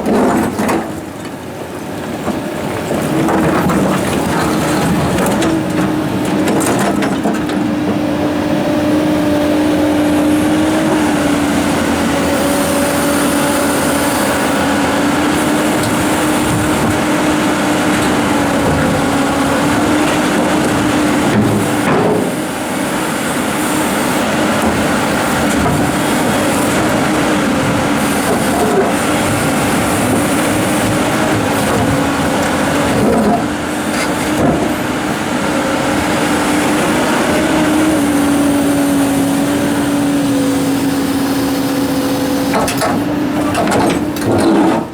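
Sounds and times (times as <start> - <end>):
excavator engine and hydraulics: 0.0 - 44.9.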